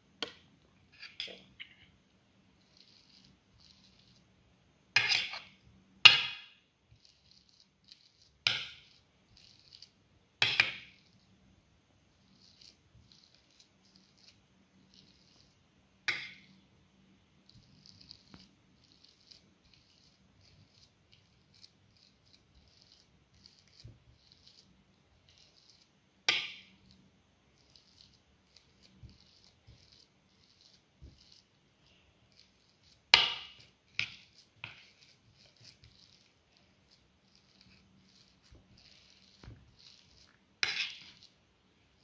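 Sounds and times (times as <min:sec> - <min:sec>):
potatoes being mashed: 0:02.6 - 0:11.5, 0:12.2 - 0:16.5, 0:17.4 - 0:42.0.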